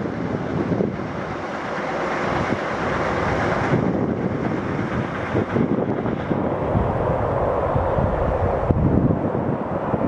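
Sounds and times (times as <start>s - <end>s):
steady rushing noise: 0.0s - 10.0s
wind buffeting microphone: 0.0s - 10.0s.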